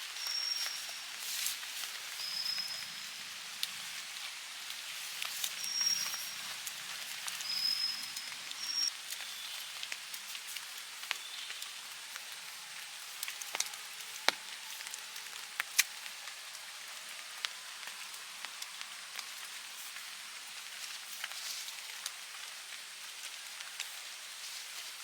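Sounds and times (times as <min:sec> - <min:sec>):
steady hiss of rain drops: 0:00.0 - 0:25.0.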